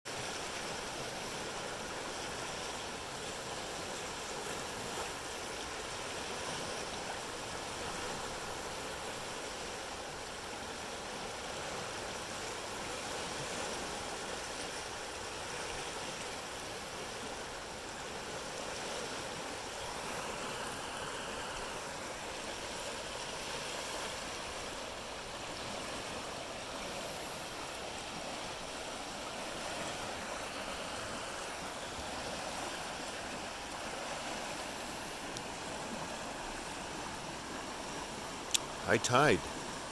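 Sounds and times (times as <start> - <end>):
flooded creek water rushing: 0.1 - 39.9.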